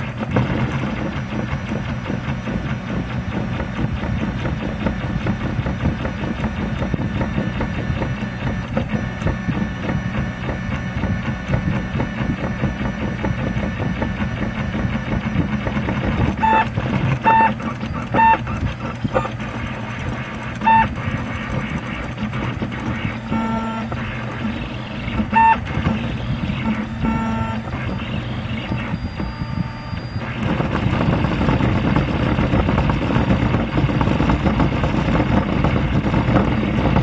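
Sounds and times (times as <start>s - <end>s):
stepper motors whirring and buzzing: 0.0s - 37.0s.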